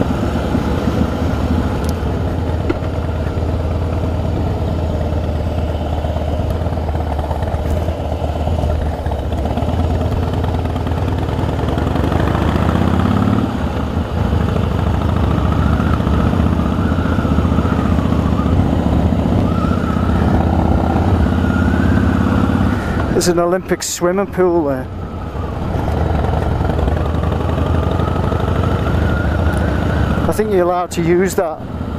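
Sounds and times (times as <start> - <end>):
motorcycle engine running: 0.0 - 23.2, 24.9 - 31.9.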